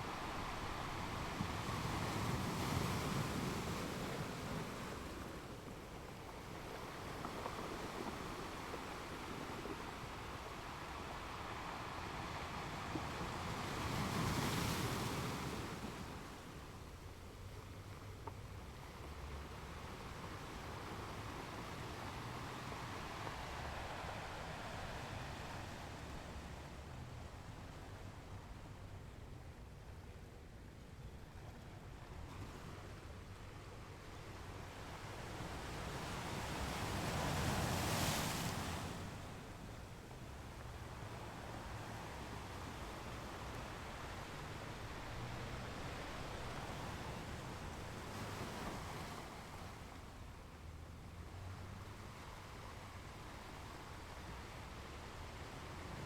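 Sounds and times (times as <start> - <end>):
ocean surf: 0.0 - 17.0, 19.0 - 28.8, 34.2 - 56.0
waves breaking: 0.0 - 17.7, 18.3 - 28.8, 34.9 - 56.0.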